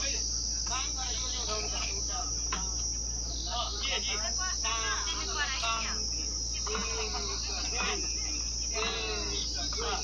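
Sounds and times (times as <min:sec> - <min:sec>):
insect chorus: 0:00.0 - 0:10.0
people's voices: 0:00.0 - 0:10.0.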